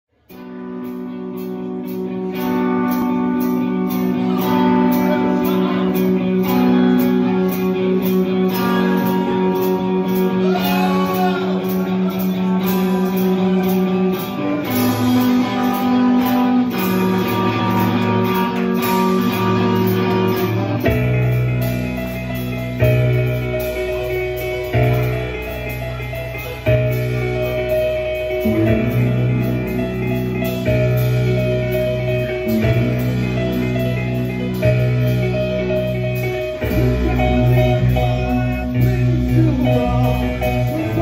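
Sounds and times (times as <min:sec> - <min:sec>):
live band playing chords: 0:00.1 - 0:41.0.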